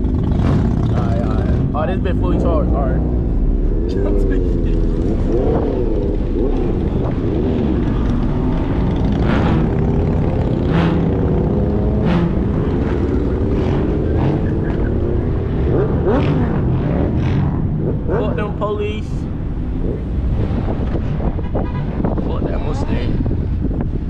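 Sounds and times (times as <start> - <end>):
car engine revving: 0.0 - 22.5.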